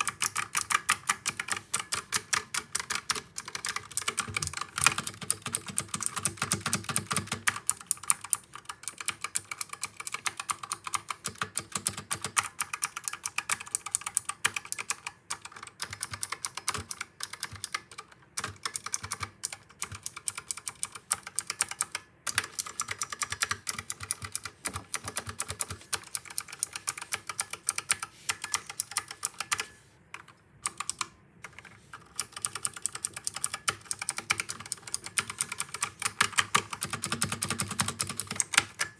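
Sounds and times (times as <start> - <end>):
keyboard typing clicks: 0.0 - 38.9.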